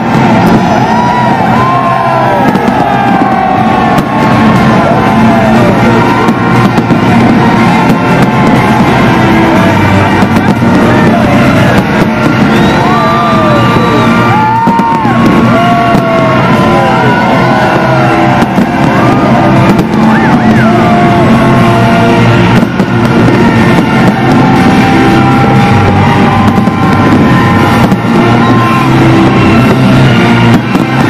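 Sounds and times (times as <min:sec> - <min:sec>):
fireworks banging: 0:00.0 - 0:31.0
loud music: 0:00.0 - 0:31.0.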